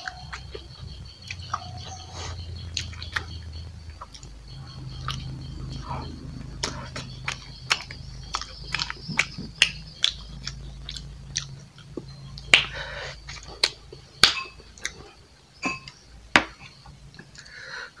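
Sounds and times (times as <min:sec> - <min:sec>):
wet chewing and mouth smacks: 0:00.0 - 0:15.2.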